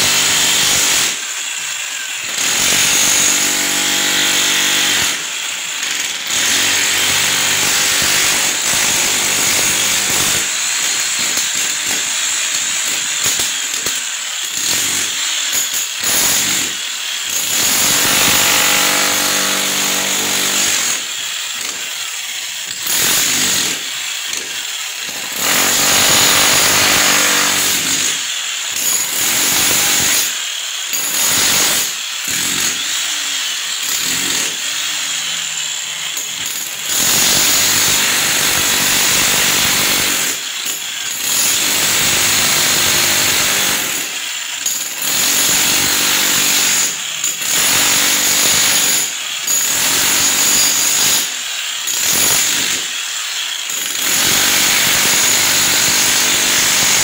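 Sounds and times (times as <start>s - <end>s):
handheld power tool cutting: 0.0s - 57.0s.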